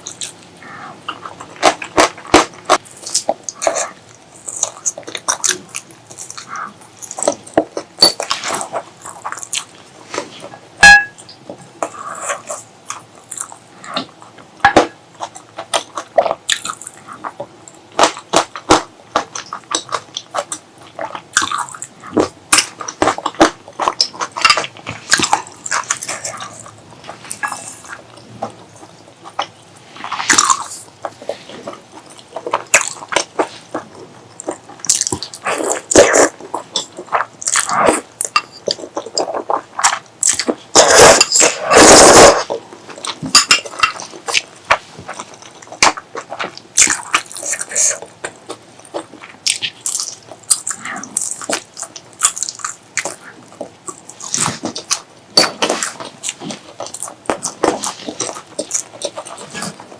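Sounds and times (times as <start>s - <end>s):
chewing and wet mouth sounds: 0.0s - 59.9s.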